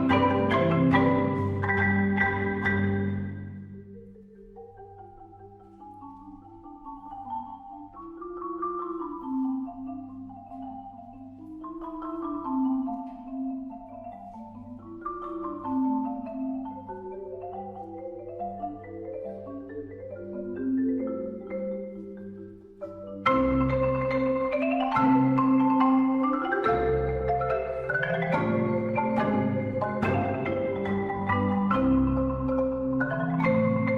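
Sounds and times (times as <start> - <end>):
instrumental melody: 0.0 - 33.9.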